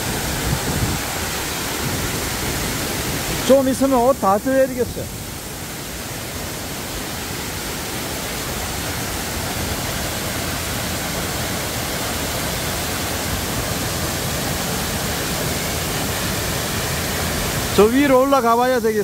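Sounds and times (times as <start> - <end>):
waterfall gushing onto rock: 0.0 - 19.0.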